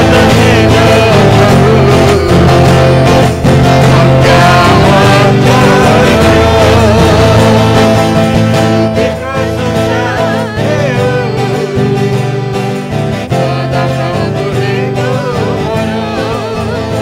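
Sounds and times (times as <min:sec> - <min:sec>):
man singing worship song: 0:00.0 - 0:17.0
twelve-string acoustic guitar: 0:00.0 - 0:17.0.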